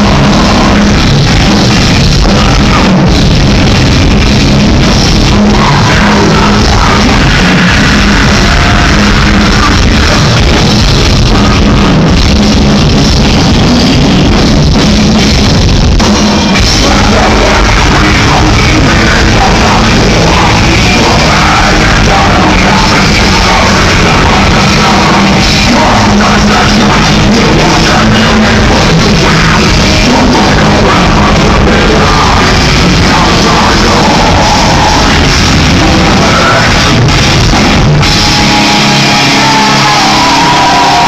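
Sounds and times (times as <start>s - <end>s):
heavy metal band playing live: 0.0s - 41.0s.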